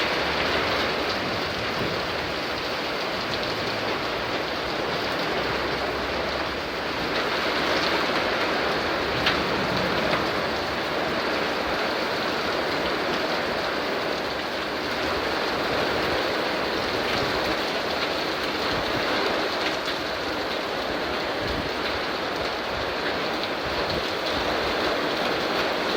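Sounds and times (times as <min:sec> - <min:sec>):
heavy rain: 0:00.0 - 0:25.9.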